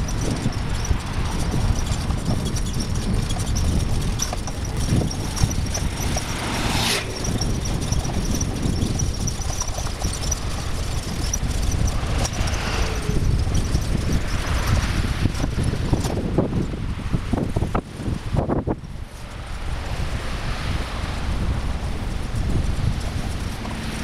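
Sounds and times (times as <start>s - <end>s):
bicycle rolling over brick paving: 0.0s - 18.4s, 20.7s - 24.0s.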